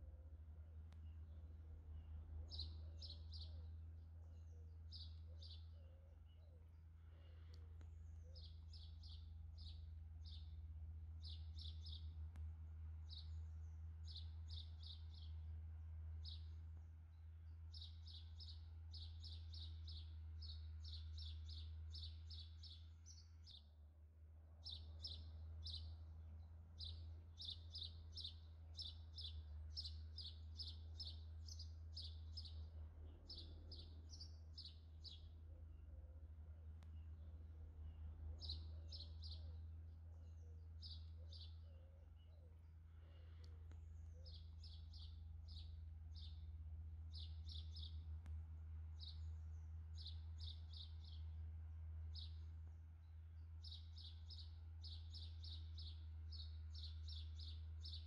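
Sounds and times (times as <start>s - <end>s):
low steady hum: 0.0s - 58.0s
songbirds chirping: 0.0s - 58.0s.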